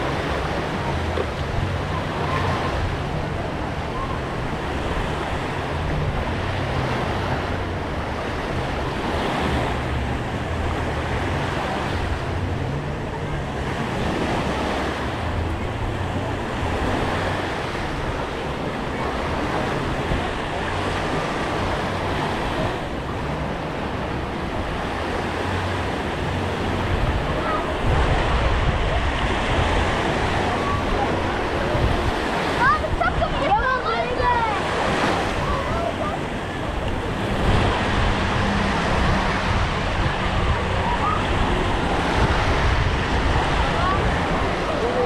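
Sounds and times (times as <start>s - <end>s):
small waves washing onto shore: 0.0s - 45.0s
wind buffeting microphone: 0.0s - 45.0s.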